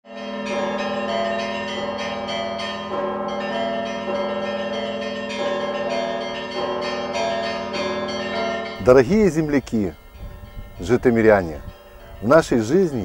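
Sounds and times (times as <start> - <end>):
large bell humming: 0.1 - 13.0
small church bells ringing: 0.1 - 13.0.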